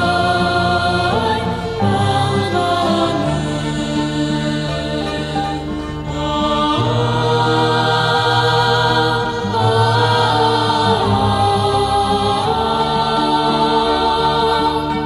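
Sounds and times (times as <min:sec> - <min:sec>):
song with sliding melody: 0:00.0 - 0:15.0.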